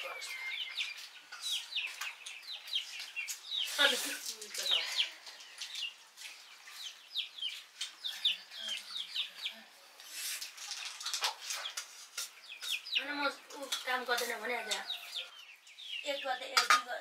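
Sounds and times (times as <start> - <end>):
chickens cheeping and clucking: 0.0 - 17.0.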